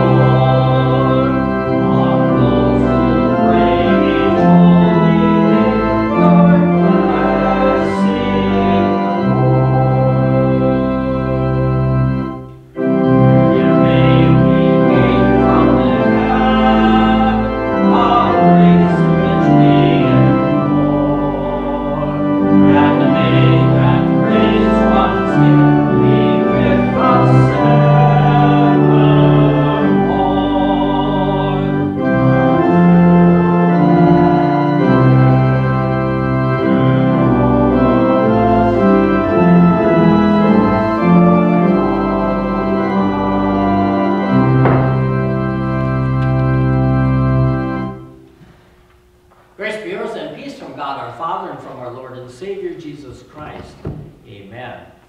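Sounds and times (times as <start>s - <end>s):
church organ playing a hymn: 0.0s - 53.7s.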